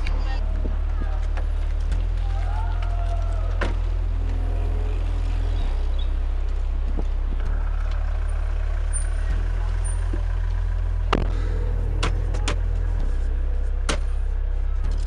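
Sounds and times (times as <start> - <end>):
loud deep hum: 0.0 - 15.0.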